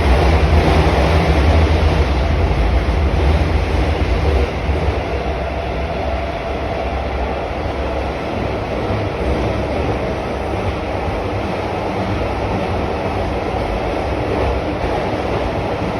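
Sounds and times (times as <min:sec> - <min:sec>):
metro train wheels rumbling on rails: 0:00.0 - 0:15.9.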